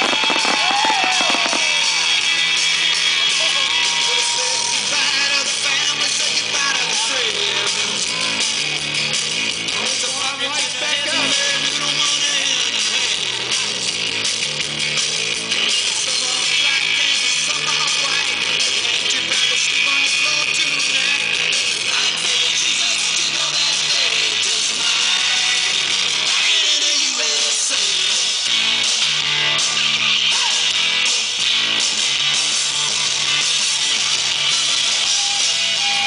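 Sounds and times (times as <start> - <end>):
rock song with guitar: 0.0 - 36.0.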